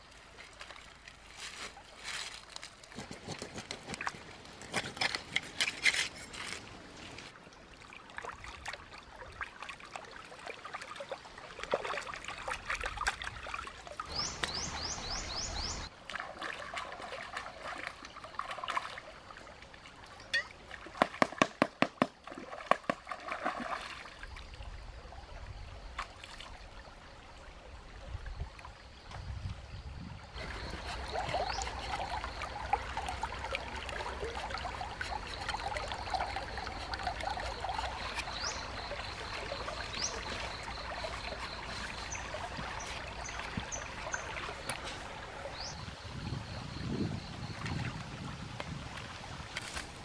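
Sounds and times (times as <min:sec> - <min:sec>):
stream trickling over rocks: 0:00.0 - 0:50.0.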